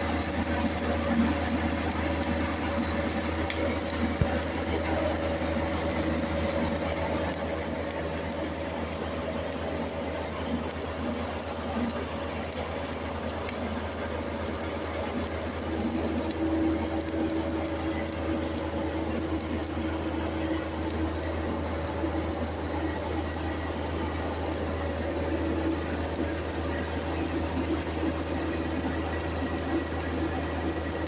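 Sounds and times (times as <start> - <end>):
welding machine humming: 0.0 - 31.0.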